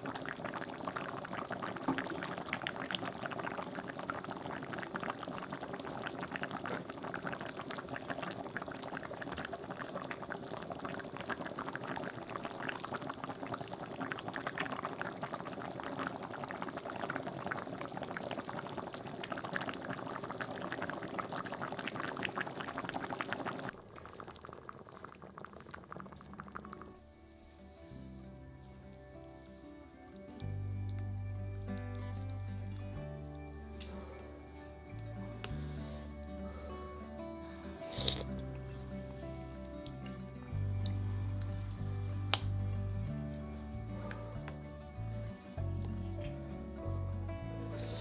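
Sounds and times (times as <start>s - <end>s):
stew boiling in a pot: 0.0s - 48.0s.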